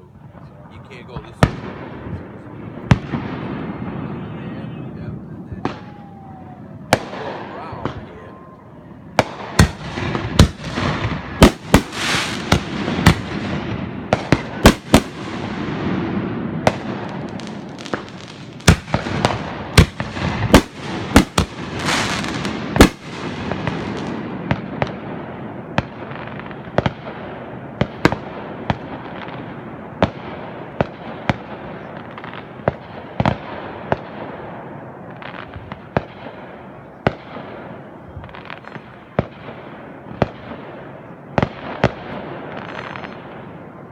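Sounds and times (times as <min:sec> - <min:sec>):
firework bangs: 0:00.0 - 0:43.9
firework crackling: 0:00.0 - 0:43.9.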